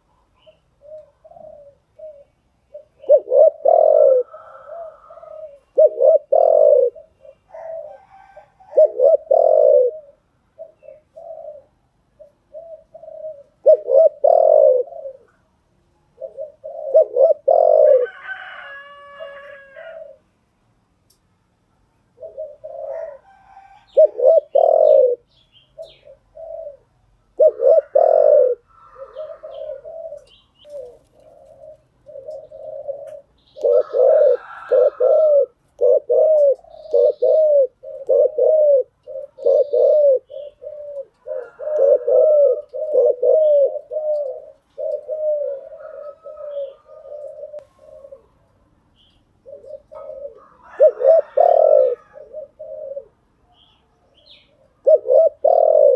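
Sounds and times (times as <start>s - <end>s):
dove cooing: 0.0s - 20.3s, 22.1s - 55.9s.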